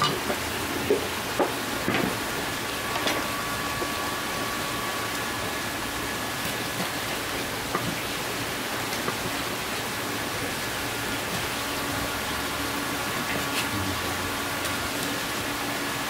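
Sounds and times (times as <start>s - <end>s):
running water hiss: 0.0s - 16.0s.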